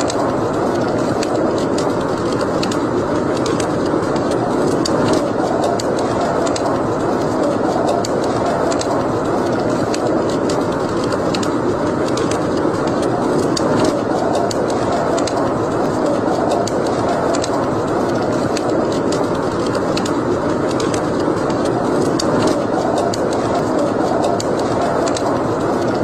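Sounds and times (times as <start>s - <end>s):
fire crackles and pops: 0.0s - 26.0s
fire rushing sound: 0.0s - 26.0s.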